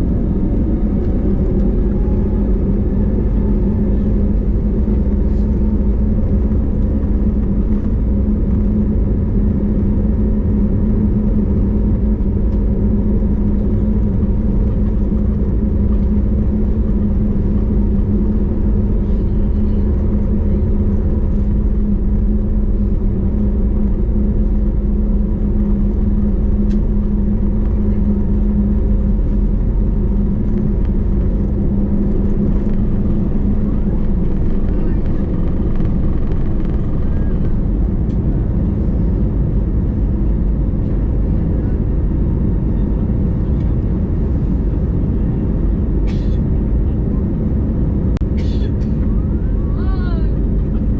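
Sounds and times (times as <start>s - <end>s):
airplane cabin drone: 0.0s - 50.9s.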